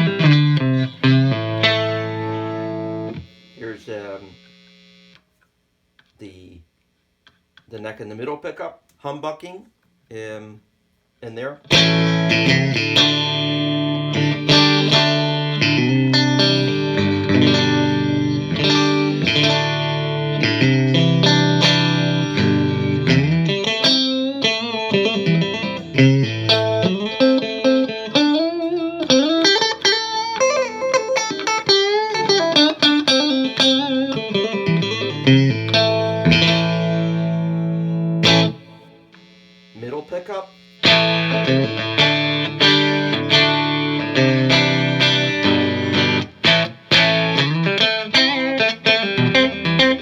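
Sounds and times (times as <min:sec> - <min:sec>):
electric guitar playing: 0:00.0 - 0:04.4, 0:11.7 - 0:39.3, 0:40.8 - 0:50.0.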